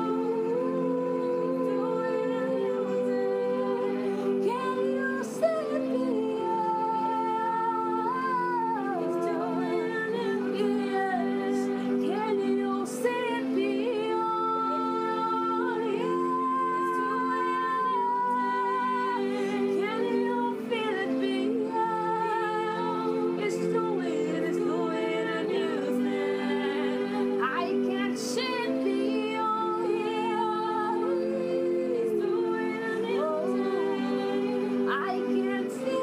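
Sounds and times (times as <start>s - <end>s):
sustained chords: 0.0s - 36.0s
woman singing long held notes: 0.0s - 36.0s.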